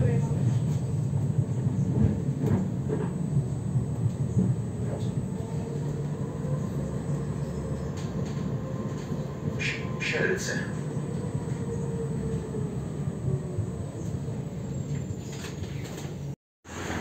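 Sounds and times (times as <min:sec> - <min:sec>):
tram rumbling on rails: 0:00.0 - 0:17.0.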